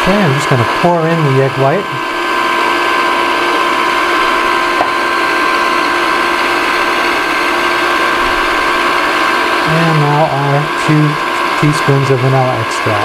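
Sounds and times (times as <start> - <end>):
stand mixer motor whining: 0.0 - 13.0.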